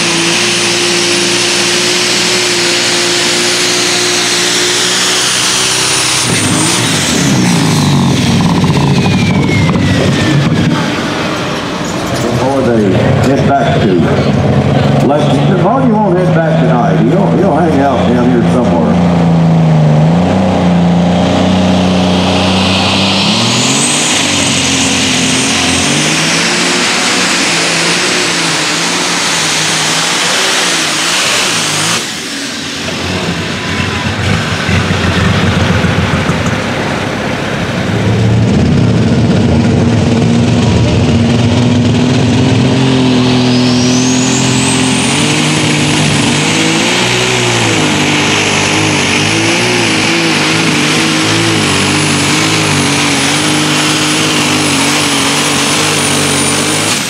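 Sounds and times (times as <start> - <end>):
turbo whine rising to whistle: 0.0 - 12.6, 17.9 - 57.0
diesel tractor engine at full power: 0.0 - 57.0.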